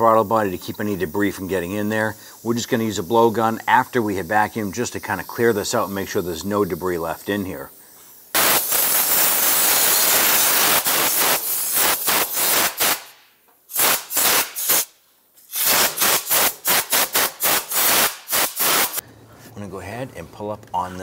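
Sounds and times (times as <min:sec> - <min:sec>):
compressed air blow gun hissing: 0:00.0 - 0:19.0.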